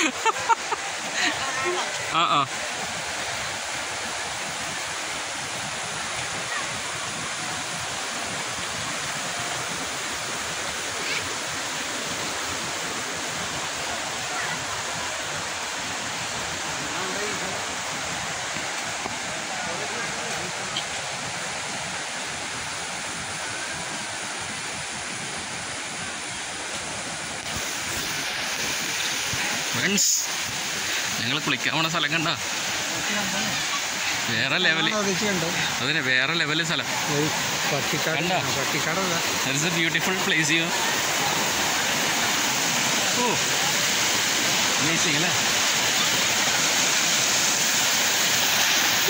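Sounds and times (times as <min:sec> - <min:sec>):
river rapids rushing over rocks: 0:00.0 - 0:49.0
small waterfalls: 0:00.0 - 0:49.0.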